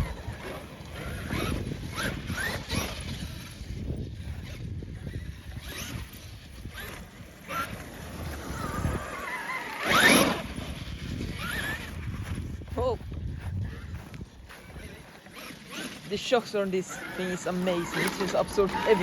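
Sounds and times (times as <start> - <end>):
electric motor whining: 0.0 - 19.0
tyres crunching over rough ground: 0.0 - 19.0.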